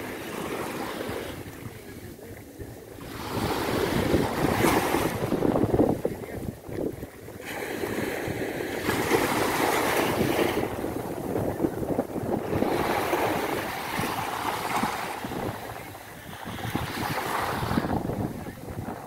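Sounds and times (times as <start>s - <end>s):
waves breaking on beach: 0.0s - 19.0s.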